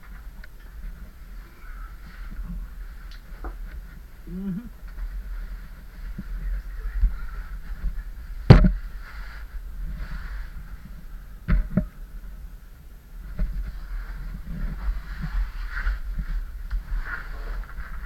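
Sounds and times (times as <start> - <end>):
low rumbling noise: 0.0 - 18.0.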